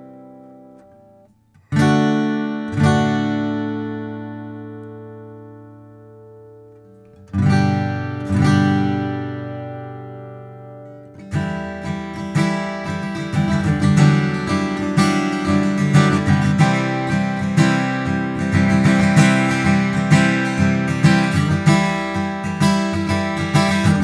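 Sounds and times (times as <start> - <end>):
acoustic guitar strummed and picked: 0.0 - 24.0.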